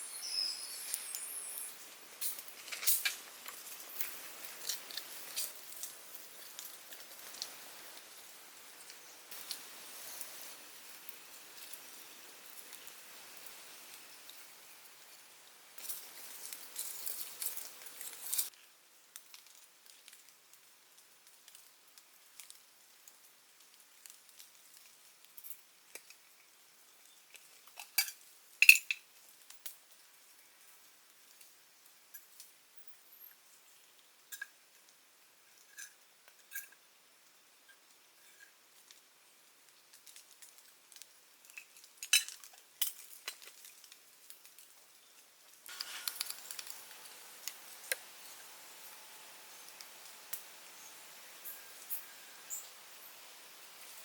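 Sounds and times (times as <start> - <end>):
frying sizzle: 0.0 - 54.0.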